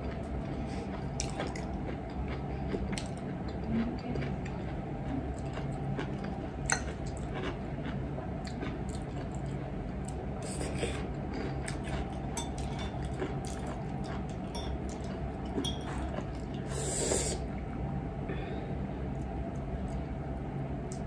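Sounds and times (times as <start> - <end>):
person chewing: 0.0 - 17.4
low steady hum: 0.0 - 21.0.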